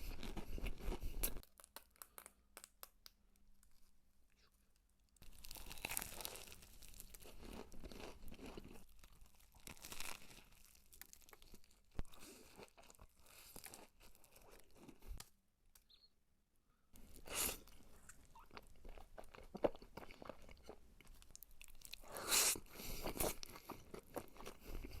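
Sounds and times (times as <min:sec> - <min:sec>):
crunching and chewing fried chicken: 0:00.0 - 0:02.4, 0:05.2 - 0:15.2, 0:17.0 - 0:25.0.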